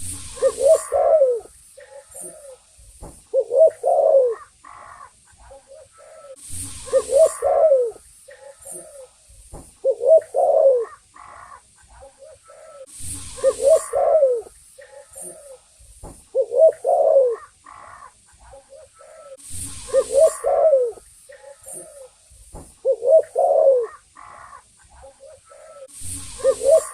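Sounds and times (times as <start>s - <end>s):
dove cooing: 0.0s - 2.7s, 3.3s - 9.2s, 9.8s - 26.9s.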